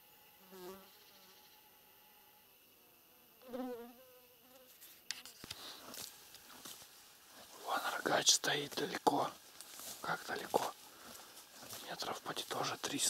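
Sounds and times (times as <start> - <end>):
flying insect buzzing: 0.0 - 12.6.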